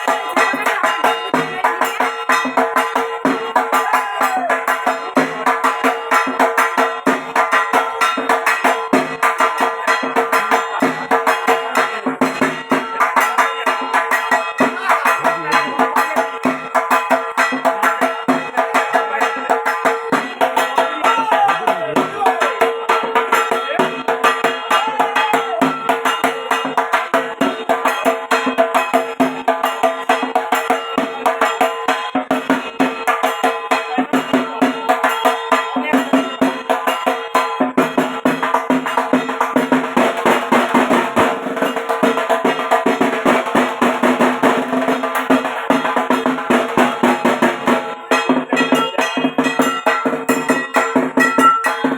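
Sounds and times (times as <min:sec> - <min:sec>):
drums beaten with sticks: 0:00.0 - 0:51.9.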